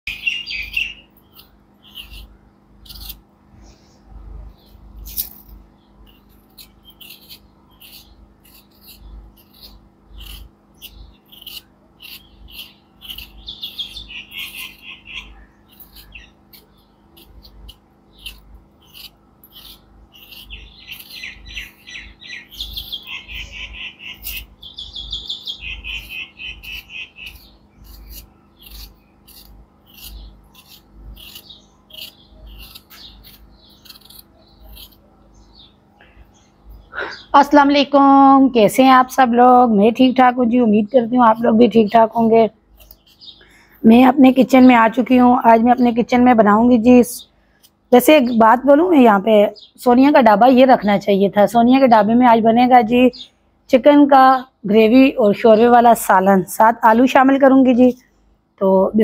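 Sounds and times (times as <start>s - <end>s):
small birds chirping and trilling: 0.0s - 59.0s.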